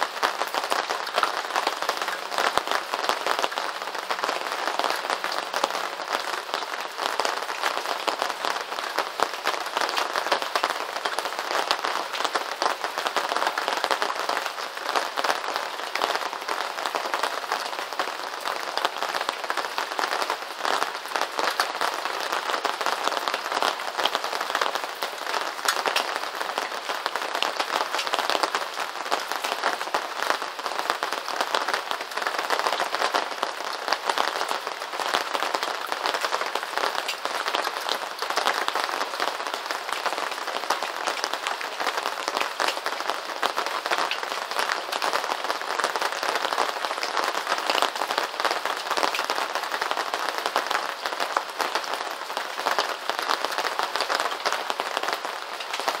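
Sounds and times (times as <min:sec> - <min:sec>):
rain on a hard surface: 0:00.0 - 0:56.0.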